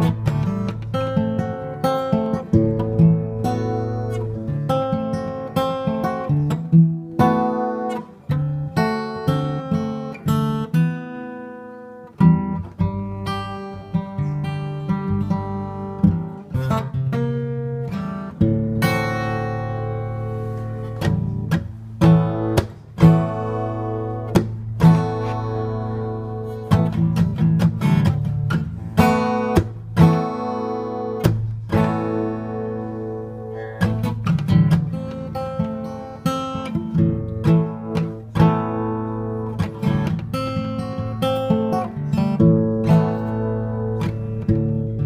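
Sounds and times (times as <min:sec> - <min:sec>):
acoustic guitar: 0:00.0 - 0:45.0.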